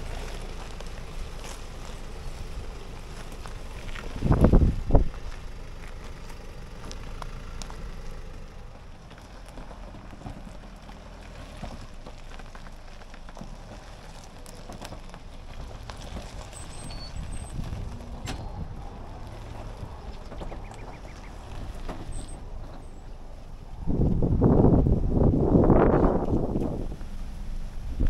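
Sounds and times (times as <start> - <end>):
gravel crunching under tyres: 0.0 - 28.0
vehicle engine rumble: 0.0 - 28.0.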